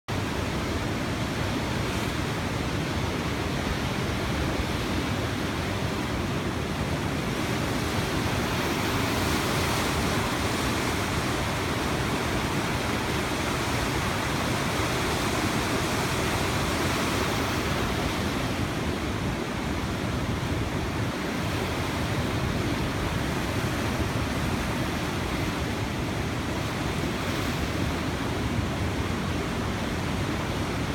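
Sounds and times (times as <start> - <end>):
river rushing through rapids: 0.1 - 30.9.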